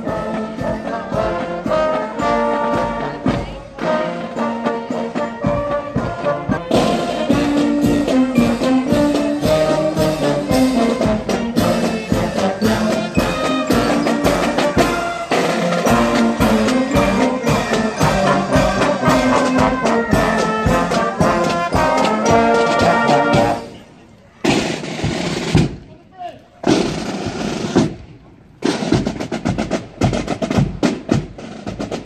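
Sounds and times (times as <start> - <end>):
steady drum beat: 0.0 - 23.7, 24.4 - 25.9, 28.6 - 32.0
brass band playing: 0.0 - 25.8.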